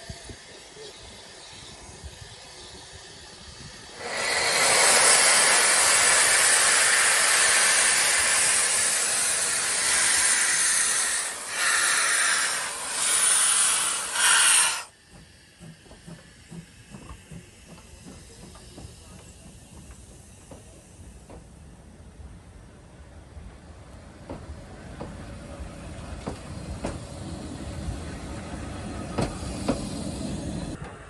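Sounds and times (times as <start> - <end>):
steam locomotive hissing: 0.0 - 31.0
train wheels clicking: 0.3 - 31.0.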